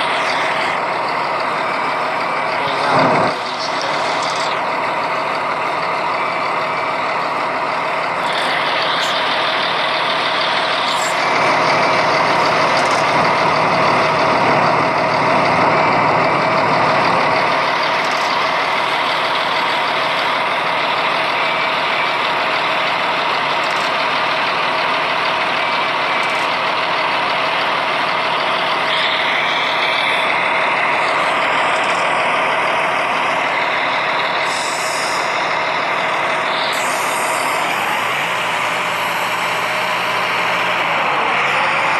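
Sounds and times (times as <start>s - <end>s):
traffic on wet road: 0.0s - 41.9s.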